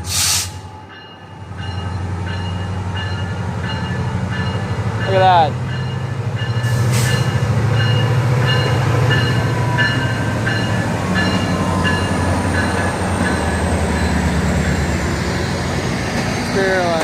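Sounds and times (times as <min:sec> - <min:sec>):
diesel locomotive engine hum: 0:00.0 - 0:17.0.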